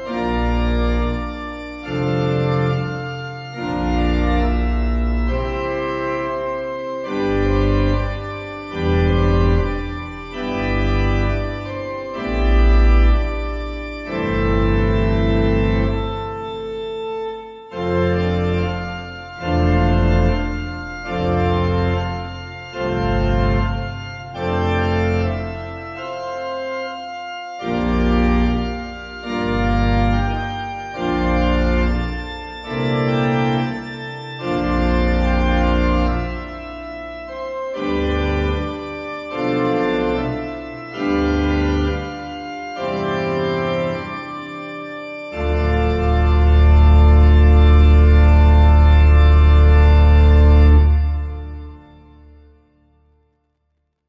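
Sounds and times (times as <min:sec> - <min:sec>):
organ chords: 0:00.0 - 0:53.2.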